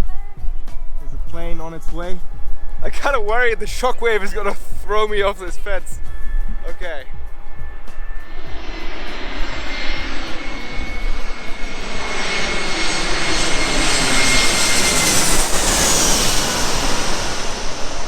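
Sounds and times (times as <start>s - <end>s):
high jet whine: 0.0s - 18.0s
jet airliner engine roar: 0.6s - 18.0s.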